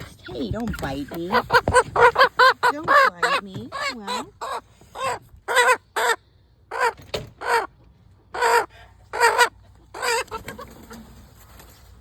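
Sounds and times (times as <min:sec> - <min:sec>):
young chicken squawking: 0:00.2 - 0:11.1.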